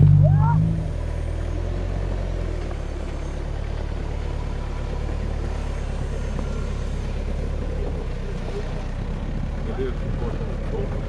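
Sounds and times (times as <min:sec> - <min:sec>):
buggy engine running at low revs: 0:00.0 - 0:11.0.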